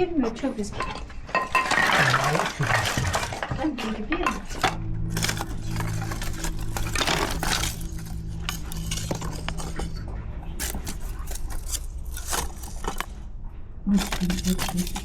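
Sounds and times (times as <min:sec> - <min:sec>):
steady low hum: 0:00.0 - 0:15.0
dishes and utensils clinking: 0:00.7 - 0:13.2, 0:13.9 - 0:15.0.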